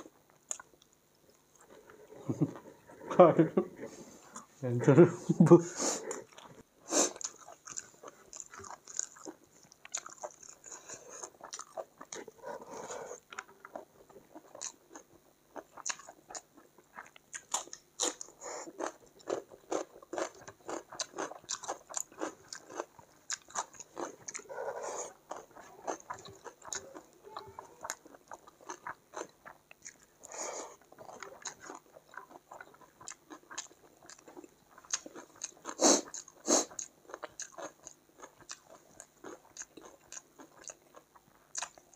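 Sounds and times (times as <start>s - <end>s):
close chewing and crunching: 0.0s - 3.2s, 6.0s - 41.9s.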